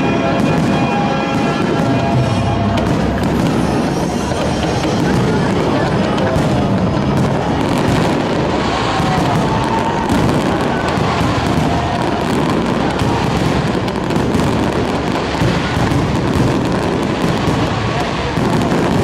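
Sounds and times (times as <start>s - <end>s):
fireworks crackling: 0.0s - 19.0s.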